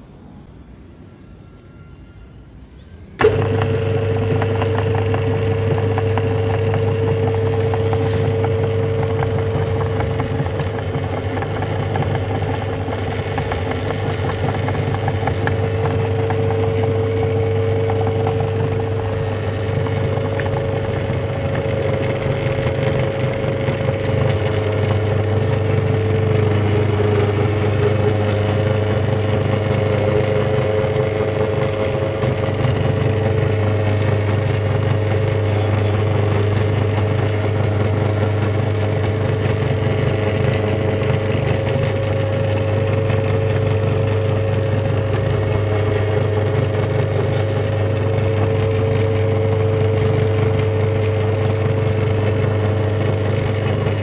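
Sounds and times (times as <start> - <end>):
meat grinder running: 3.2 - 54.0.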